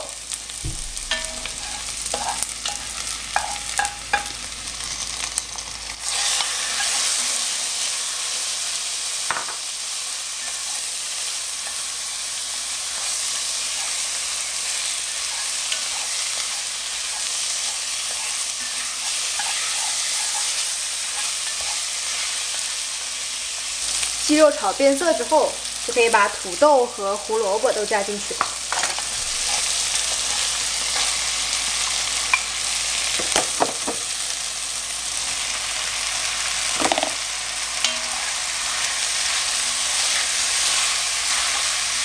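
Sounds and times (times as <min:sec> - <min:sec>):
chicken and onions sizzling in oil: 0:00.0 - 0:42.0.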